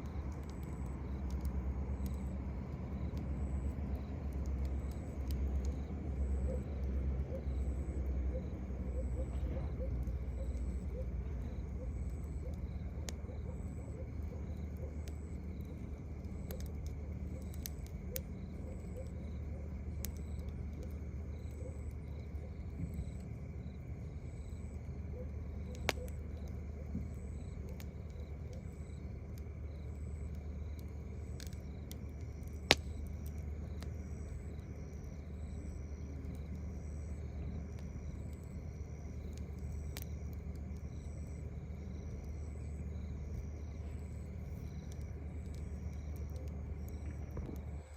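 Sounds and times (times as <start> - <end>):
campfire crackling: 0.0 - 47.9
crickets chirping: 0.0 - 47.9
sharp pops from fire: 0.0 - 47.9.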